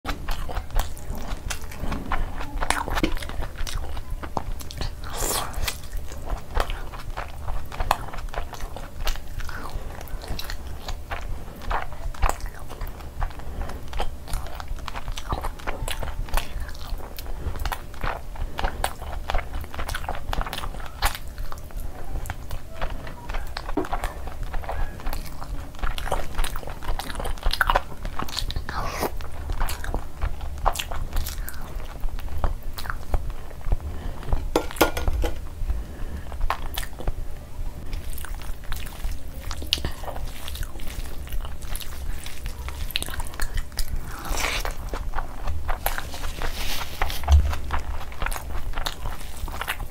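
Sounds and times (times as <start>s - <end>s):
chewing and biting food: 0.0s - 49.9s
low steady hum: 0.0s - 49.9s.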